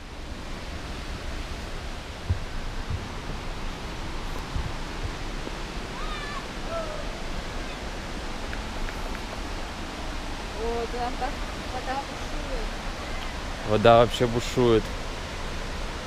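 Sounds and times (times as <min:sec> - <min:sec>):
creek rushing: 0:00.0 - 0:16.0.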